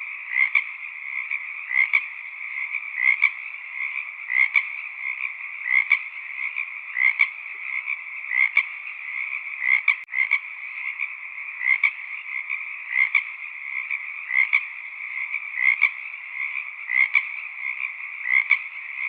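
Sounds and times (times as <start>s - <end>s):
frogs chorus calling: 0.0s - 19.0s
louder frog call: 0.0s - 19.0s.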